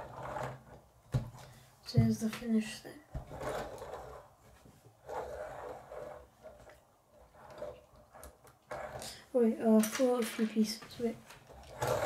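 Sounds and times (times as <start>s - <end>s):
plastic toy rustling and rolling: 0.0s - 12.0s.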